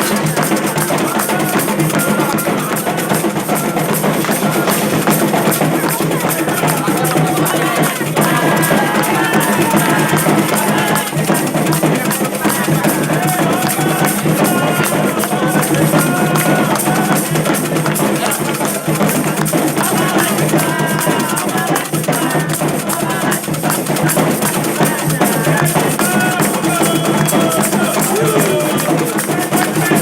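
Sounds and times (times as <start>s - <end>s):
drums beating steady rhythm: 0.0s - 30.0s
voices singing: 0.0s - 30.0s.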